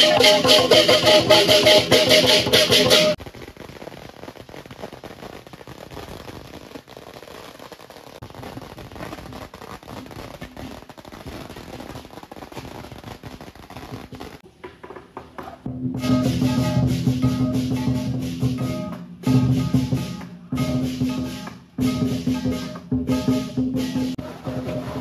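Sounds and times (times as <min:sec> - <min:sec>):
firecrackers crackling: 0:00.0 - 0:25.0.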